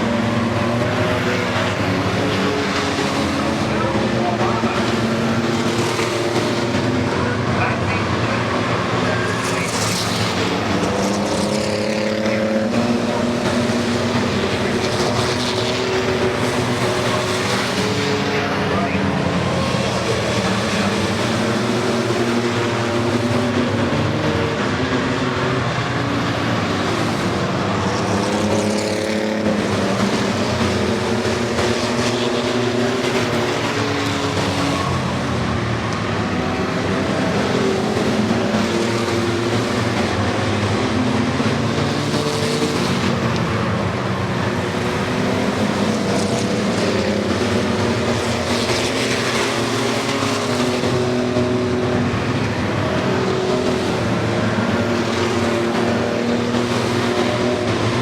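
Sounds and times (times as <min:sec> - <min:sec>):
truck engines racing: 0:00.0 - 0:58.0.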